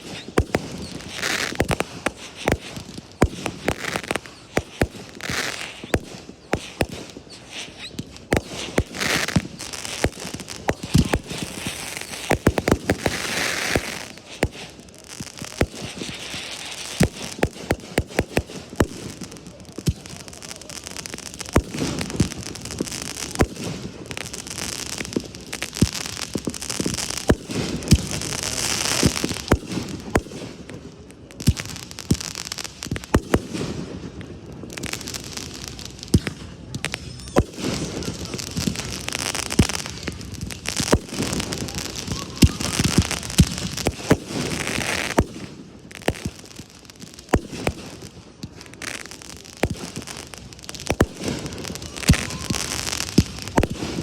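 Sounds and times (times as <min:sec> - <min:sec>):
fireworks bangs: 0:00.0 - 0:54.0
fireworks crackling and hissing: 0:00.0 - 0:54.0.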